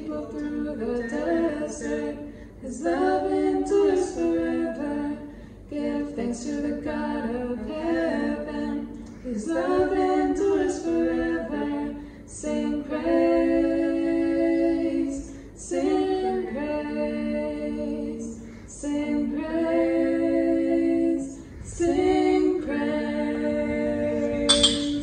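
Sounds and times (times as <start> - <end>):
women singing unaccompanied: 0.0 - 25.0.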